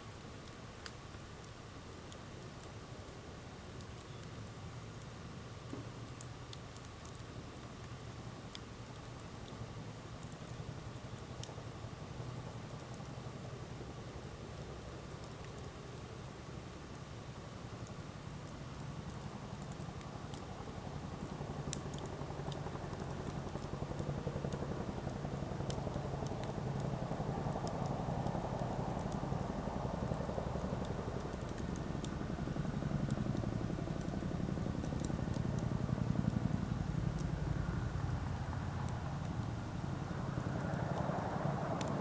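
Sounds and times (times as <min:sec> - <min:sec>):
low fire rumble: 0:00.0 - 0:42.0
campfire pops and crackles: 0:00.2 - 0:42.0.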